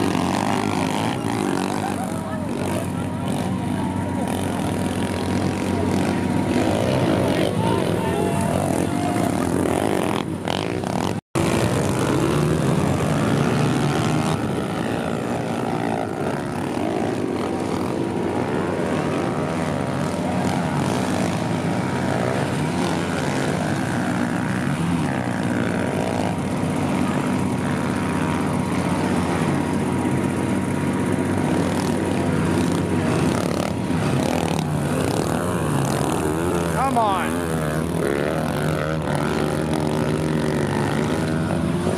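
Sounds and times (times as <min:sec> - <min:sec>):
pit bike engines revving: 0:00.0 - 0:41.9.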